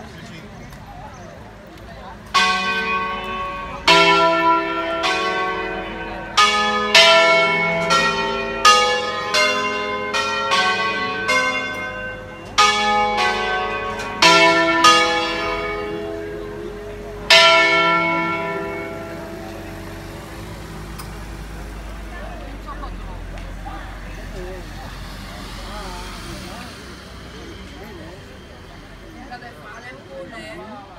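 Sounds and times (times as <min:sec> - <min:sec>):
church bells pealing: 0:02.2 - 0:29.5.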